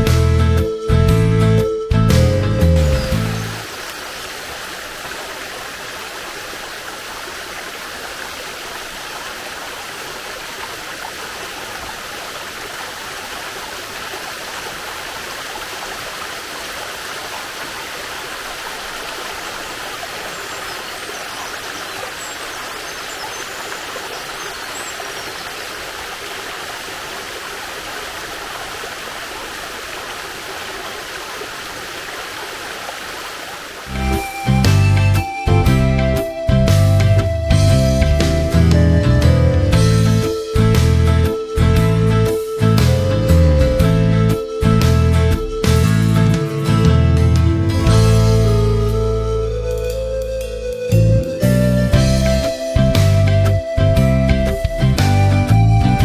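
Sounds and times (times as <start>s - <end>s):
waterfall and stream rushing: 2.3s - 56.0s.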